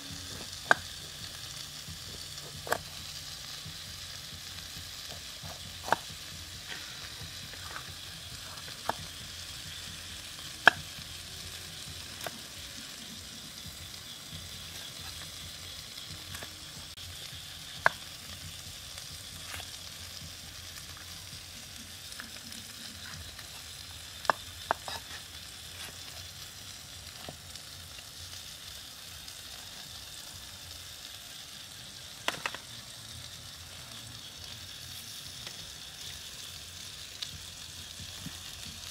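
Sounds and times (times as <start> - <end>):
meat sizzling on hot rock: 0.0 - 38.9.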